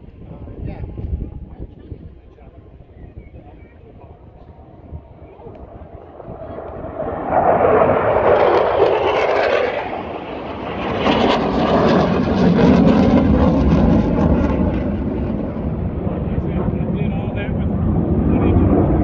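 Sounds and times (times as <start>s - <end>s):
airplane engine flying past: 2.1s - 19.0s.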